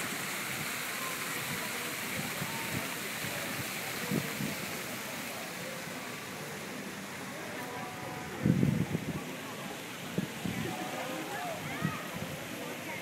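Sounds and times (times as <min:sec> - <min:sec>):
fountain water splashing into pool: 0:00.0 - 0:13.0.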